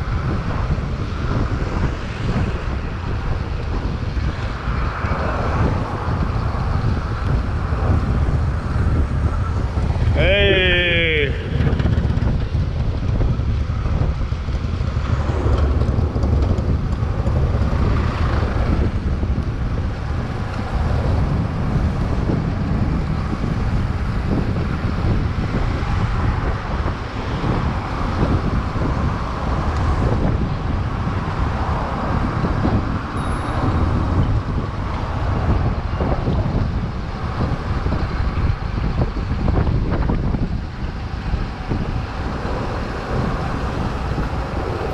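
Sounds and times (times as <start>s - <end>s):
road traffic: 0.0s - 44.9s
wind rumble on microphone: 0.0s - 44.9s.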